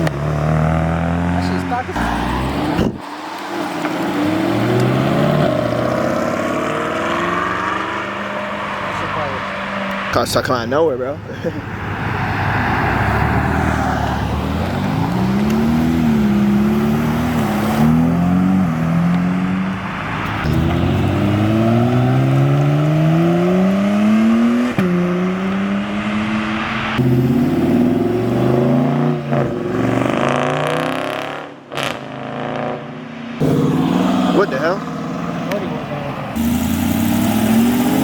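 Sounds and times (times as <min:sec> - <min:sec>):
car engines accelerating hard: 0:00.0 - 0:38.0.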